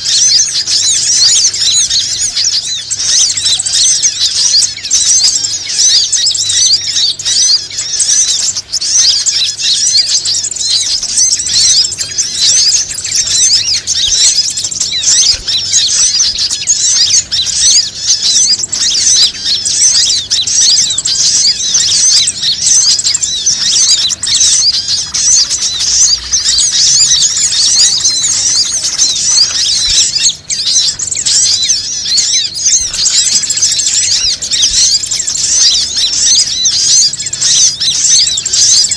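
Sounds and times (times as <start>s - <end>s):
chorus of high rapid bird chirps: 0.0s - 38.9s.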